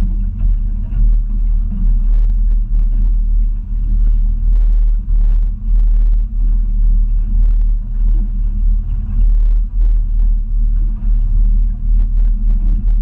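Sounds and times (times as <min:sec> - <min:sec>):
outboard motor rumbling: 0:00.0 - 0:13.0.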